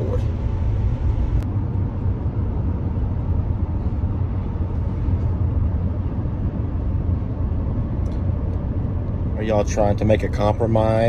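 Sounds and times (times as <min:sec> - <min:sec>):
road and engine rumble in cabin: 0:00.0 - 0:11.0.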